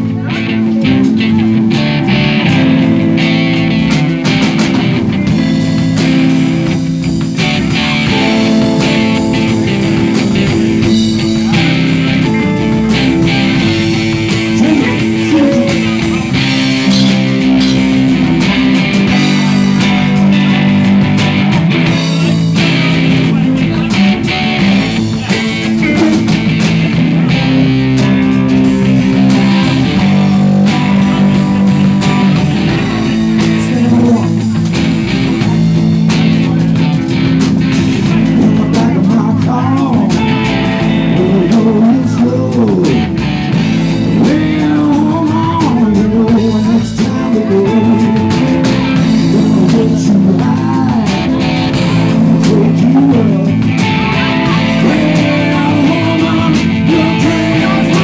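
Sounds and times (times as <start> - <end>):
lead guitar bending notes: 0.0 - 58.0
live band playing blues rock: 0.0 - 58.0.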